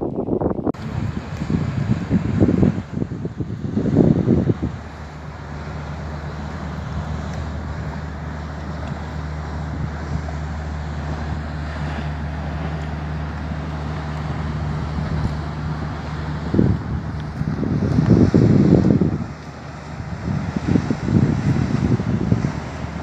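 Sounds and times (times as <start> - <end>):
rushing water and wind: 0.0 - 23.0
ship engines droning: 0.8 - 23.0.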